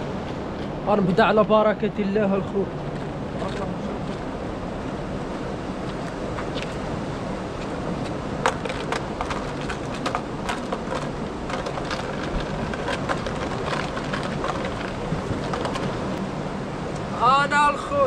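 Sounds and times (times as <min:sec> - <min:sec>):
sea washing against concrete: 0:00.0 - 0:18.0
wind: 0:00.0 - 0:18.0.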